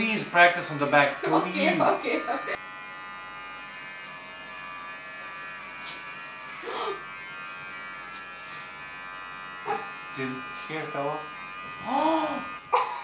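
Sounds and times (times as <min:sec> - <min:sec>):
electric hair trimmer buzzing: 0:00.0 - 0:13.0.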